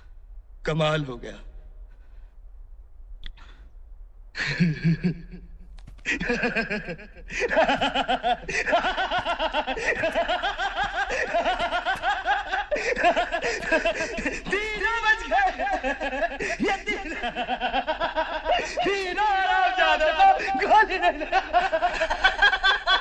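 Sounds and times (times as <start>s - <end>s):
men laughing: 4.4s - 23.0s.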